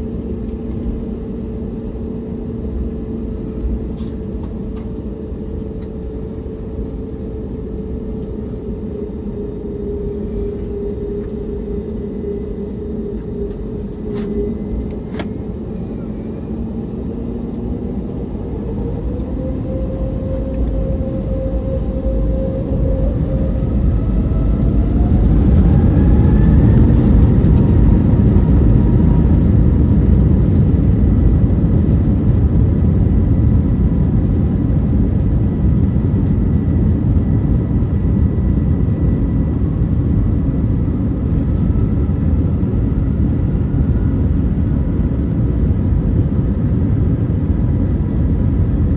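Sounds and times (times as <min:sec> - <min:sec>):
aircraft rolling rumble: 0:00.0 - 0:48.9
jet engines whining: 0:00.0 - 0:48.9.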